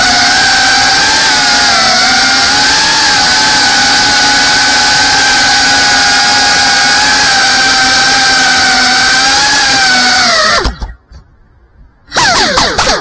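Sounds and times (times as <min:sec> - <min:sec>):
drone propellers whining: 0:00.0 - 0:11.0, 0:12.1 - 0:13.0.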